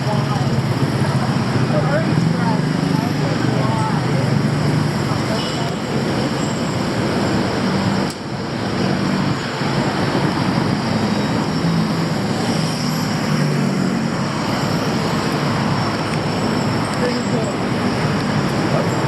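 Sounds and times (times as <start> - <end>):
cars and buses passing: 0.0 - 19.0
road noise hum: 0.0 - 19.0.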